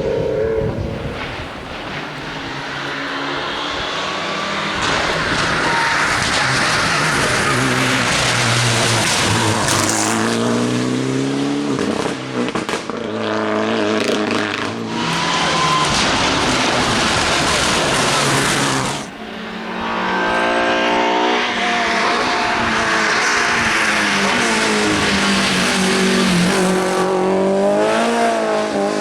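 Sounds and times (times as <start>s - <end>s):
car passing rush: 0.0s - 29.0s
rally car engine revving hard: 1.8s - 29.0s.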